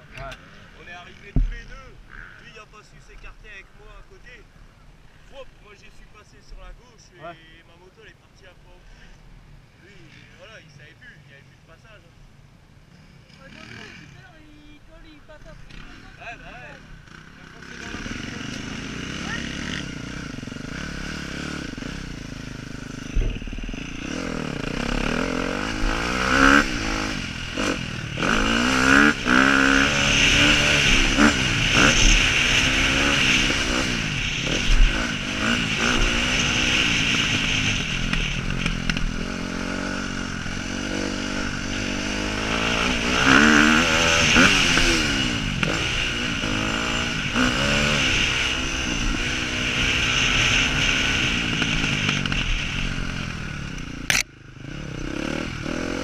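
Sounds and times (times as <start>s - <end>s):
motocross bike engine revving: 0.0s - 4.1s, 12.9s - 56.0s.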